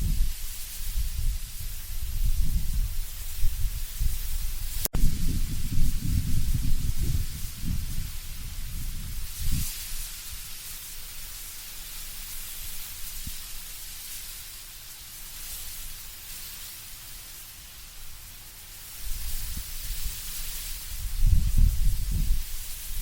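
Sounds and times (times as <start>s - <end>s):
leaves rustling in wind: 0.0s - 23.0s.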